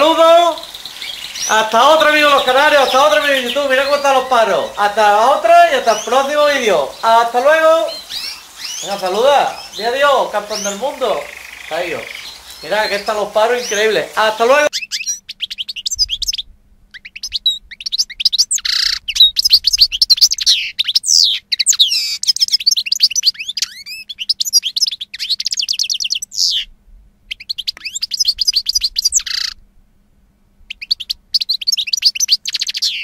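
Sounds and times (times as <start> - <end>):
canary singing trills: 0.0 - 26.7, 27.3 - 29.6, 30.6 - 33.0.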